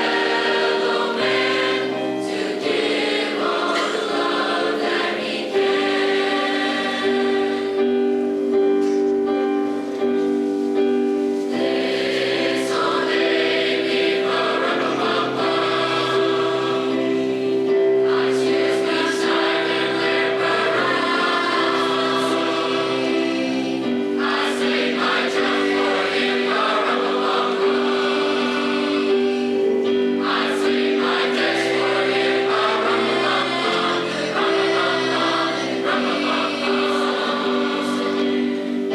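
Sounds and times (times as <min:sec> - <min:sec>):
choir singing with music: 0:00.0 - 0:38.9.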